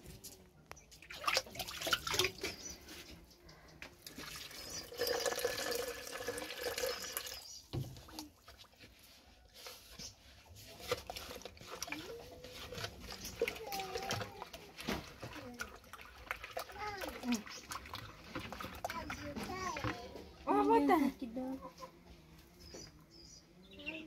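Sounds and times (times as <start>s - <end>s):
water pouring and splashing: 0.0s - 3.2s, 4.0s - 20.9s.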